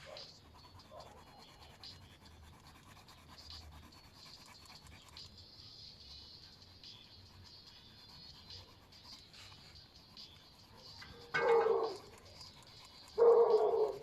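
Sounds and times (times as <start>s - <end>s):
colouring strokes scratching paper: 0.0s - 14.0s.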